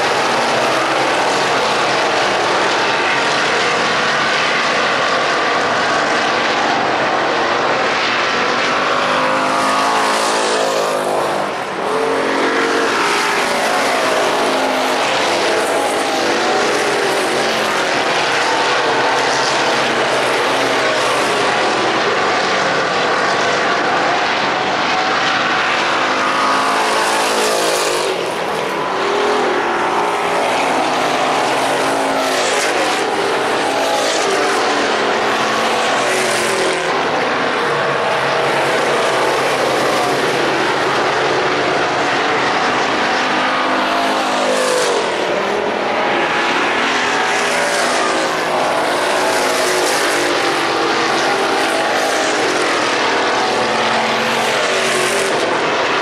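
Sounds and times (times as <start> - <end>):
stock car engines racing: 0.0 - 56.0.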